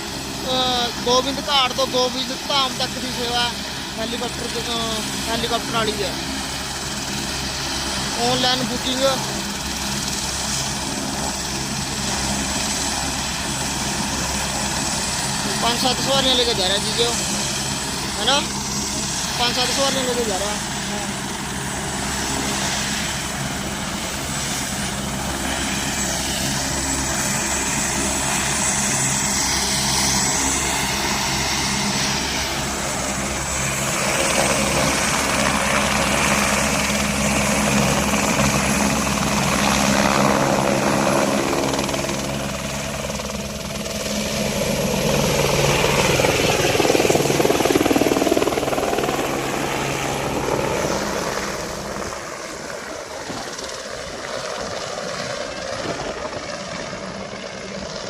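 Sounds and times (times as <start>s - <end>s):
helicopter rotor blades chopping: 0.0s - 58.0s.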